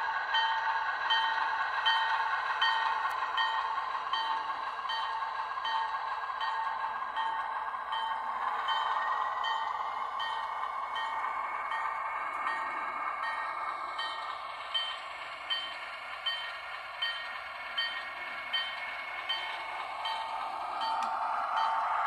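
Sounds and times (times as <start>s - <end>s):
locomotive hum: 0.0s - 22.0s
locomotive bell ringing: 0.3s - 22.0s.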